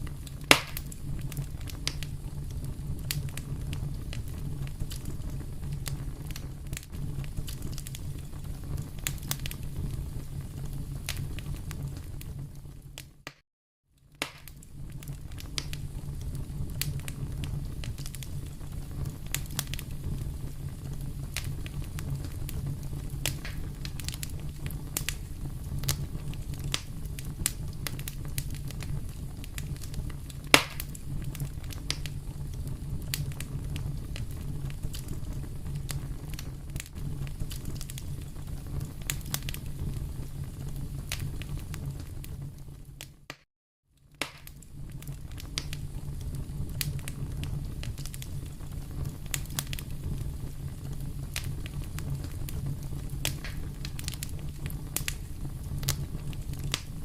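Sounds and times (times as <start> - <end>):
loud sharp pop of fire: 0.0 - 10.2, 14.2 - 40.1, 44.1 - 57.0
fire crackling in fireplace: 0.0 - 57.0.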